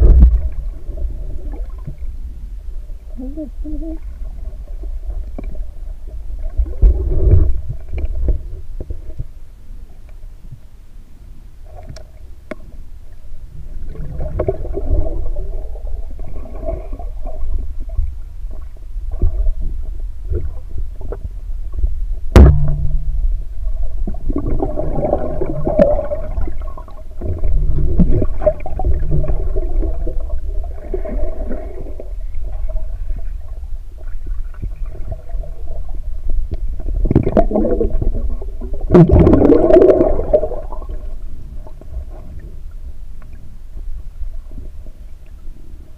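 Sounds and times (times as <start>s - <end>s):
muffled underwater rumbling: 0.0s - 45.9s.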